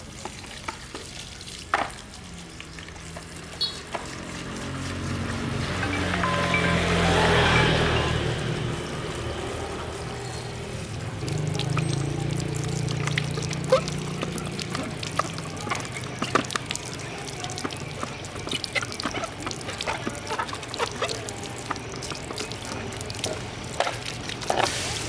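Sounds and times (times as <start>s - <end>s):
water pouring and trickling: 0.0s - 25.0s.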